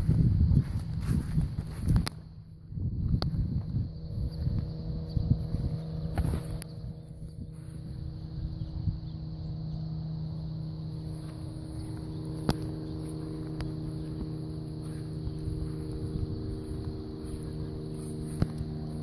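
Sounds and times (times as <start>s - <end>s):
low rumble: 0.0s - 19.0s
motor hum: 0.0s - 19.0s.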